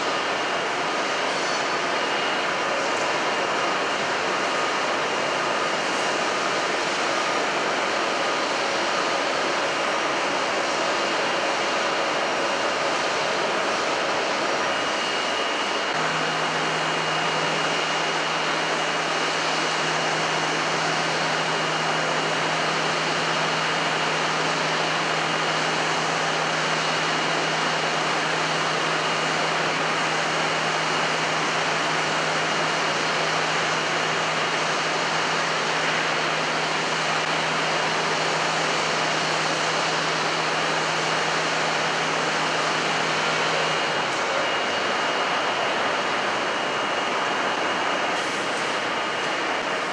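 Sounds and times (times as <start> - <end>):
milling machine whirring: 0.1 - 49.9.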